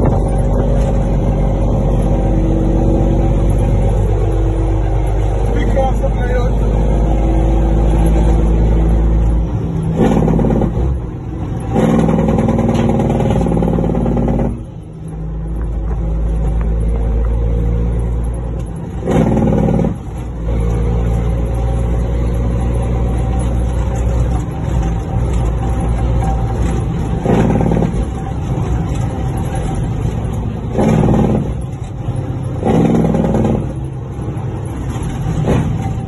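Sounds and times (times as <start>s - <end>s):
truck diesel engine under load: 0.0s - 36.0s.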